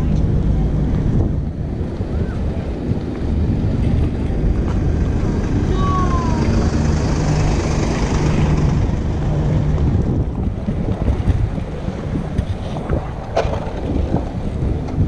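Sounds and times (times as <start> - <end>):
low rumble: 0.0 - 15.0
steady low hum: 0.0 - 15.0
wind buffeting microphone: 0.0 - 15.0.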